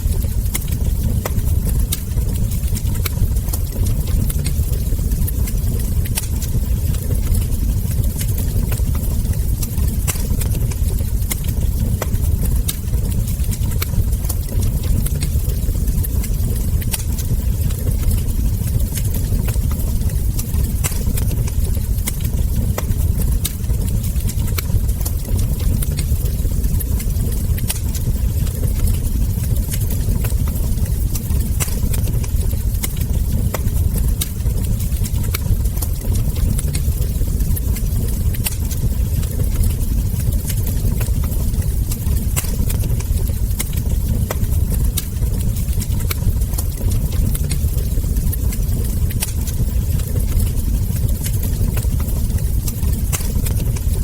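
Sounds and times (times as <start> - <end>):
fire pops and snaps: 0.0 - 54.0
low rumble of burning logs: 0.0 - 54.0.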